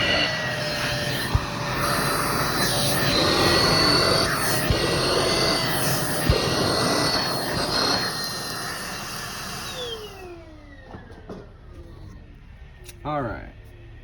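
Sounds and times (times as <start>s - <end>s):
vacuum cleaner running: 0.0s - 11.4s
motor winding down: 0.0s - 12.2s.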